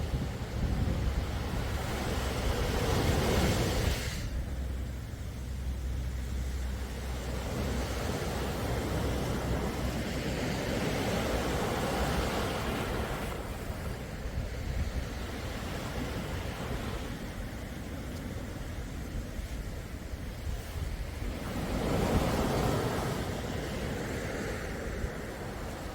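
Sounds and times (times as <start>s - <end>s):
hiss of water: 0.0s - 25.9s
sea waves washing on shore: 0.0s - 25.9s.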